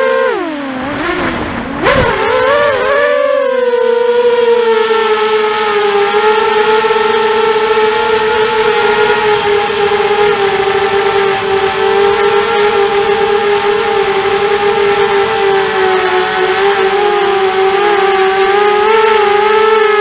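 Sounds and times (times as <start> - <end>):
drone motors buzzing whine: 0.0 - 20.0.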